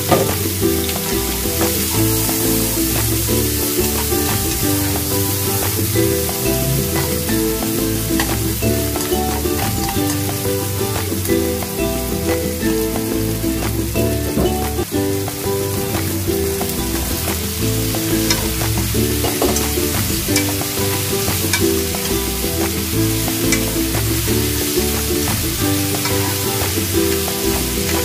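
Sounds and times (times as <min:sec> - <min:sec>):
background music: 0:00.0 - 0:28.0
vegetables sizzling in a pan: 0:00.0 - 0:28.0.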